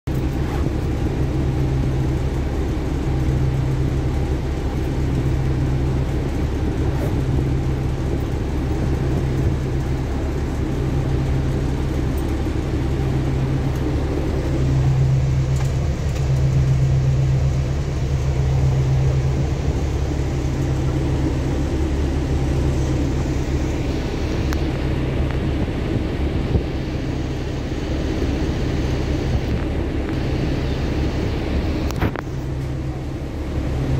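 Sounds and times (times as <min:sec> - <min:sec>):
bus engine rumble: 0:00.0 - 0:33.9.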